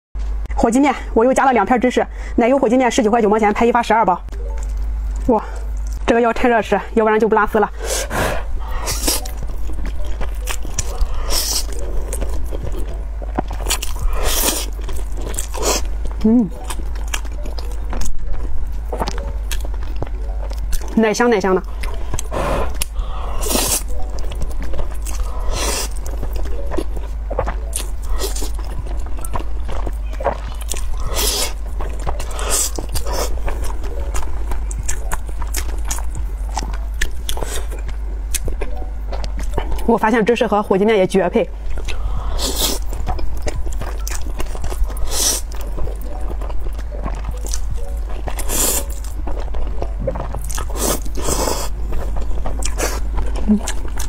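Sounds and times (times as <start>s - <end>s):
chewing: 4.3s - 6.1s, 7.8s - 40.0s, 41.6s - 54.0s.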